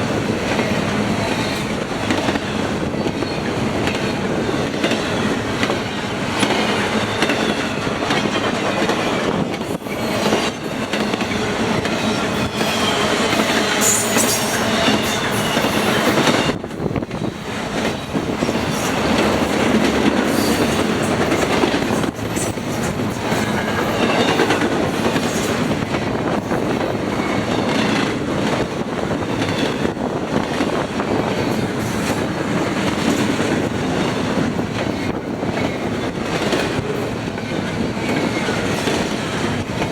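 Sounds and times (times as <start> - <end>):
train rumble: 0.0 - 39.9
train wheels clicking over rail joints: 0.0 - 39.9.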